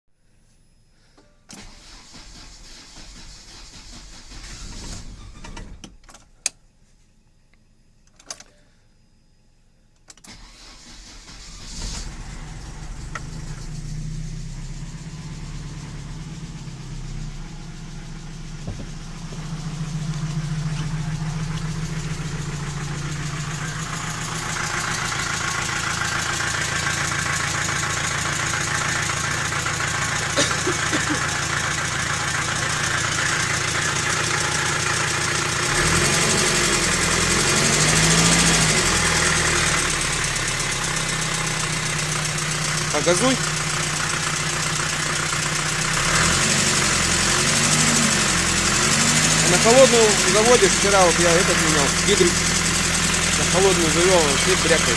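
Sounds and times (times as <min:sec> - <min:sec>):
car engine starting and idling: 0:01.5 - 0:06.3, 0:10.1 - 0:54.9.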